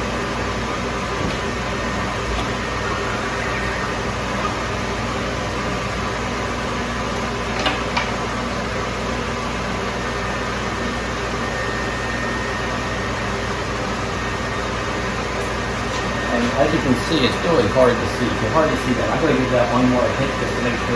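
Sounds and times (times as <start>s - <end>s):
dryer fan whirring hum: 0.0s - 20.9s.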